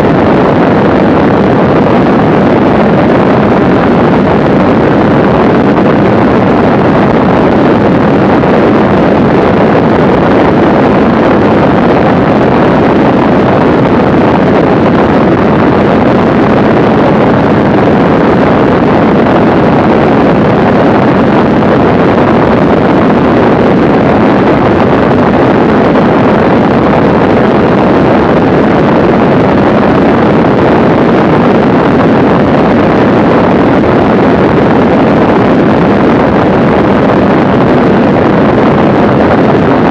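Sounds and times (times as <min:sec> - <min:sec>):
aircraft engine and propeller: 0:00.0 - 0:39.9
wind buffeting microphone: 0:00.0 - 0:39.9.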